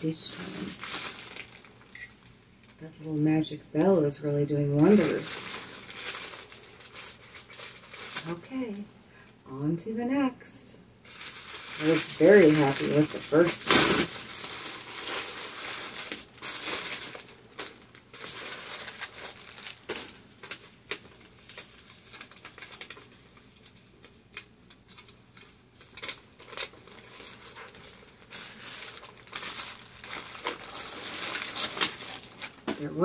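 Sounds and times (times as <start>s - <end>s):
plastic bag crinkling: 0.0s - 2.8s, 4.7s - 8.6s, 11.0s - 33.0s.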